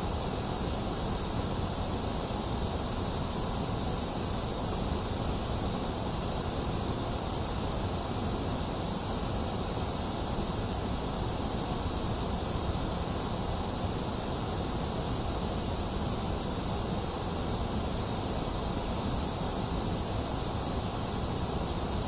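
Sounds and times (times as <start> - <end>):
fan and rain hiss: 0.0 - 22.0.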